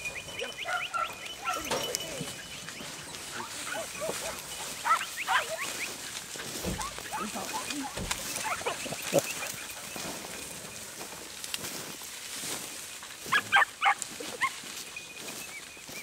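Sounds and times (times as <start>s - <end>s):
hounds yelping: 0.0s - 11.1s, 13.2s - 16.0s.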